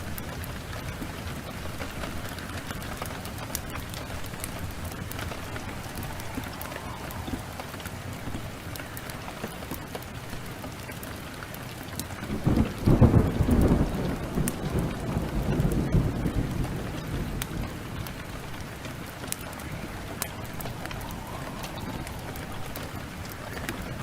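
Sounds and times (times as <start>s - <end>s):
thunder clap rumbling: 0.0s - 10.6s, 12.2s - 24.0s
heavy rain downpour: 0.0s - 24.0s
wood fire crackling: 0.0s - 24.0s.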